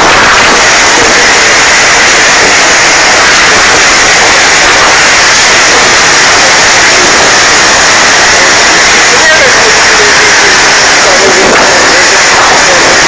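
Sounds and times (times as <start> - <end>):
loud rushing wind: 0.0 - 13.0.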